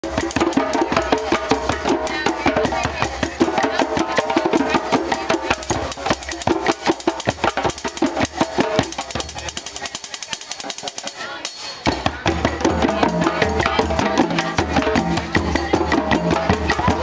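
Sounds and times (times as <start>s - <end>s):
hand drums playing: 0.0s - 17.0s.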